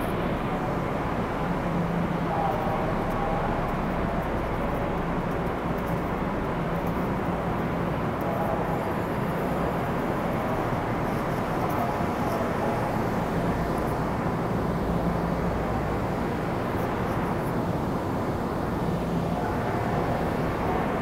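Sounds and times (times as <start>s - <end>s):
rumbling hum of trains: 0.0s - 21.0s.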